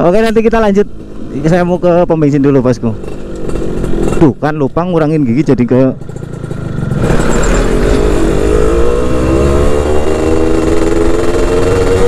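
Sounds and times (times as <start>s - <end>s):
two-stroke motorcycle engine revving: 1.0s - 12.0s.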